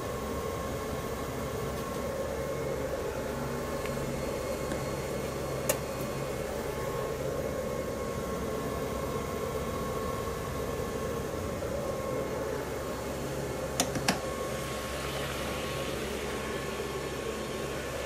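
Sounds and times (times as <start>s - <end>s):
fan-like hum and hiss: 0.0s - 18.0s.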